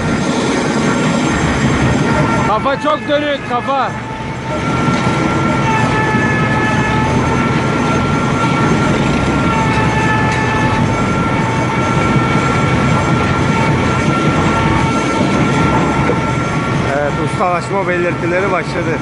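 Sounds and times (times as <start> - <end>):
log debarker grinding and whining: 0.0 - 19.0.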